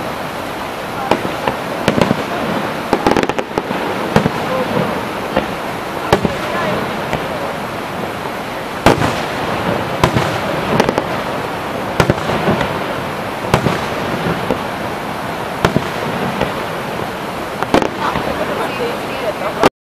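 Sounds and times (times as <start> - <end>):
steady rushing background noise: 0.0 - 19.7
firework shells bursting: 1.0 - 14.9, 15.5 - 18.7.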